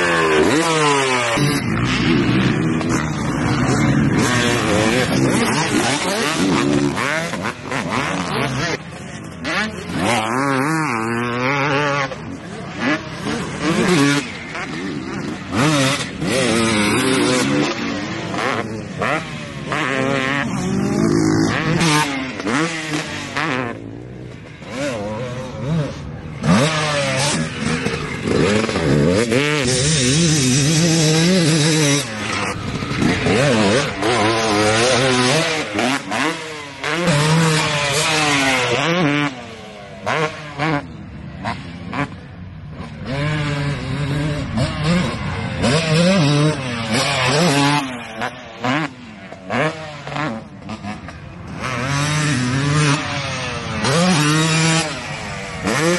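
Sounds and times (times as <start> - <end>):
two-stroke dirt bike engine revving: 0.0 - 55.9.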